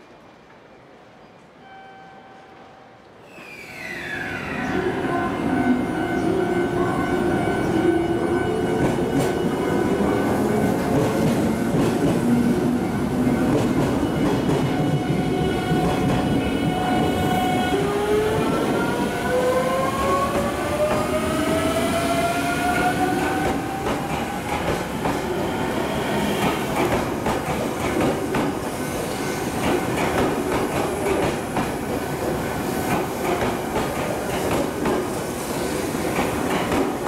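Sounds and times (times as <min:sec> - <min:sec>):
train wheels rumbling: 0:04.4 - 0:37.0.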